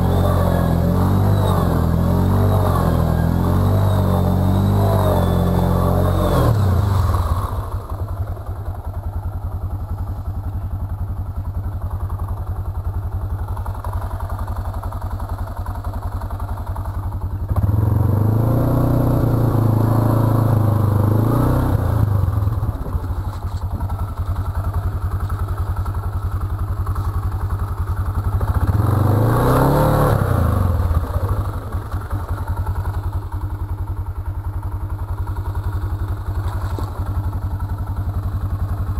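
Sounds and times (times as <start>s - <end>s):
atv engine revving: 0.0s - 10.2s, 13.5s - 38.9s.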